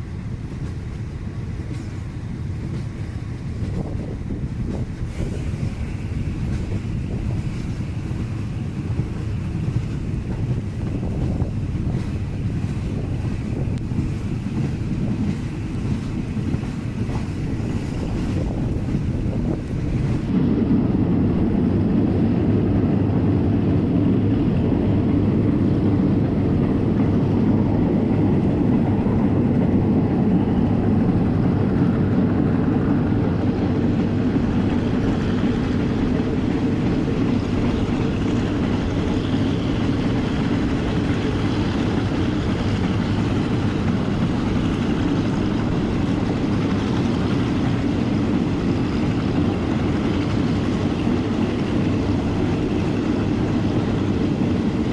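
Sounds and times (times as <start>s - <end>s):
train rumbling along track: 0.0s - 54.9s.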